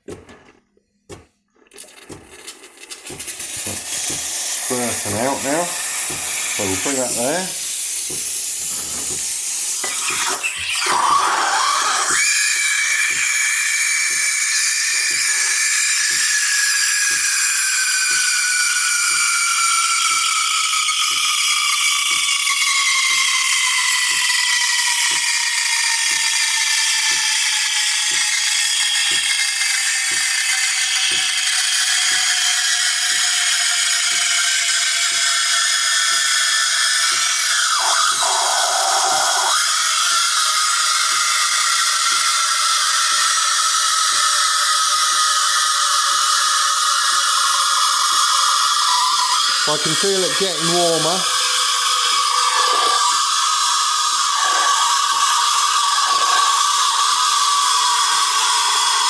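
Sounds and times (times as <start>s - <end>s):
steam wand frothing milk: 1.1s - 59.0s.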